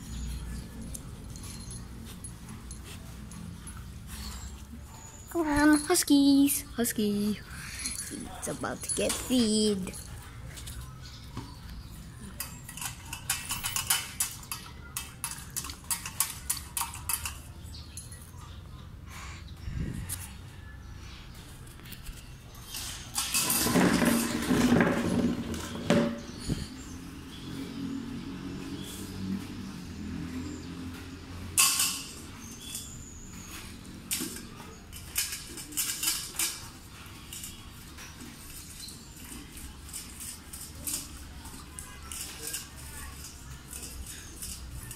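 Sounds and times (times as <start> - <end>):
metal bowl and chain clinking on concrete: 0.0 - 18.8, 22.2 - 44.9.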